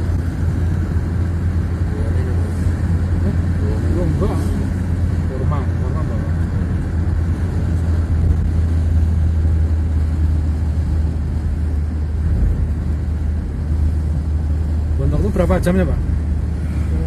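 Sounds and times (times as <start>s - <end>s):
car engine and tyre drone: 0.0s - 17.0s.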